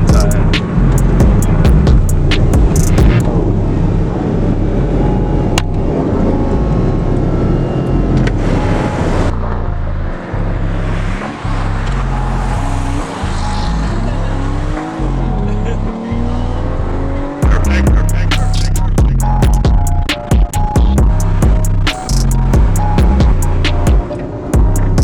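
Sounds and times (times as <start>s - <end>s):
car engine and road noise: 0.0s - 25.0s
heavy bass music: 0.0s - 25.0s.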